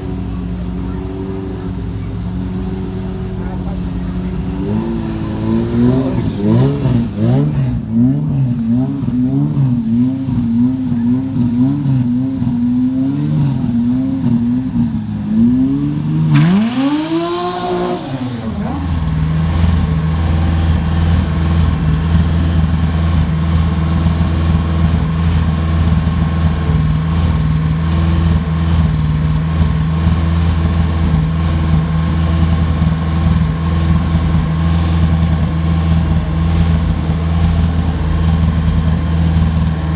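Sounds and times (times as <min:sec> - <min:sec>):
car engines revving: 0:00.0 - 0:39.9
deep steady engine drone: 0:00.0 - 0:39.9.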